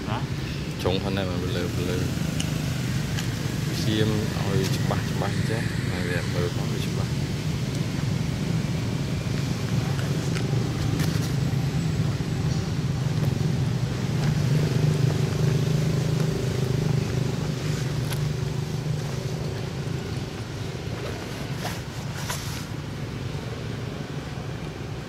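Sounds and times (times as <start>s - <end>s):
motor engine humming: 0.0s - 21.9s.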